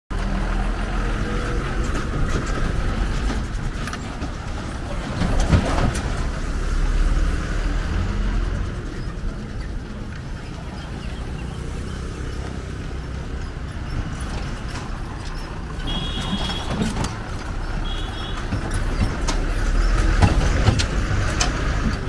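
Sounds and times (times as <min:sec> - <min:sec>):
diesel lorry engines rumbling: 0:00.1 - 0:22.0.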